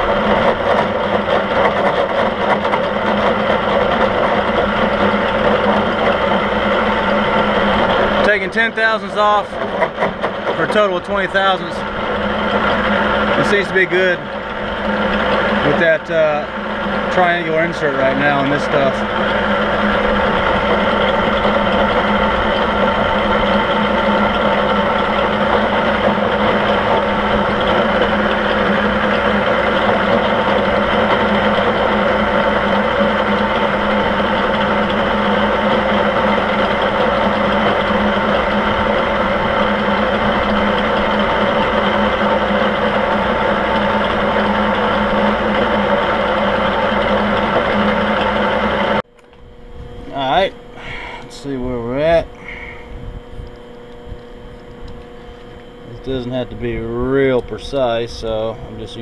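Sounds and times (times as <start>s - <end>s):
milling machine whine: 0.0s - 59.0s.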